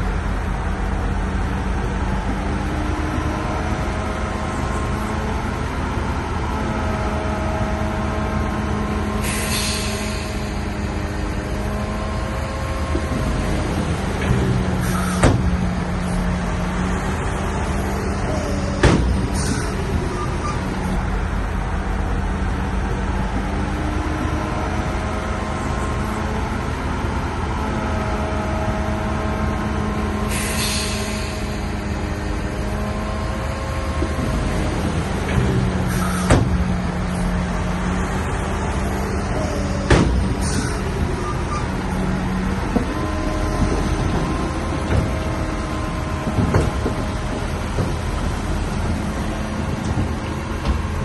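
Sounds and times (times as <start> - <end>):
bulldozer diesel engine: 0.0 - 51.0.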